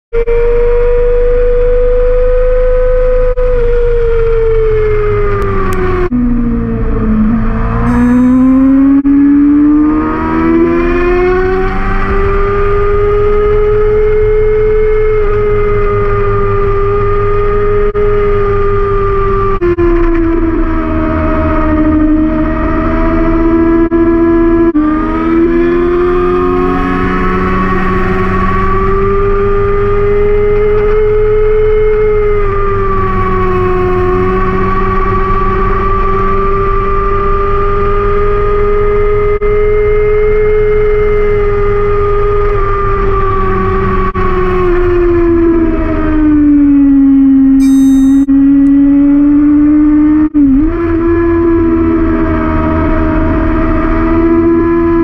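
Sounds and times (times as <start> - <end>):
motorcycle engine high revs whine: 0.1 - 55.0.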